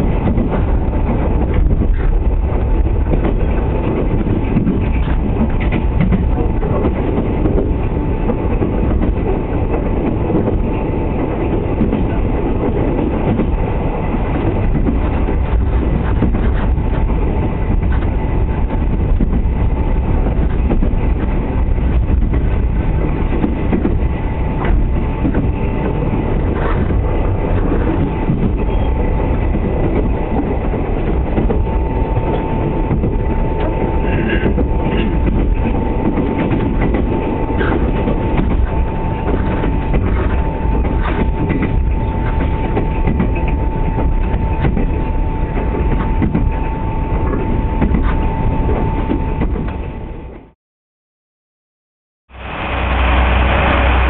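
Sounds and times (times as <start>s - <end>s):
train wheels rumbling on rails: 0.0s - 50.6s, 52.3s - 54.0s.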